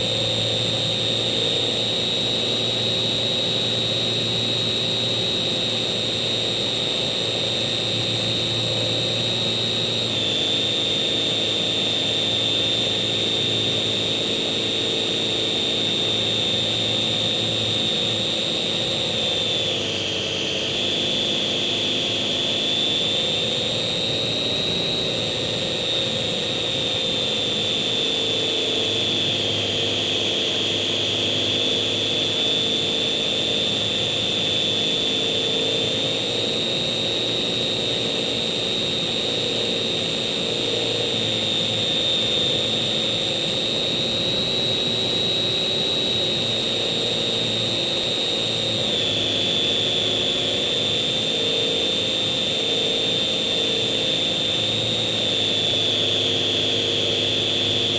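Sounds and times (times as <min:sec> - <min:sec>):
model airplane motor whine: 0:00.0 - 0:57.9.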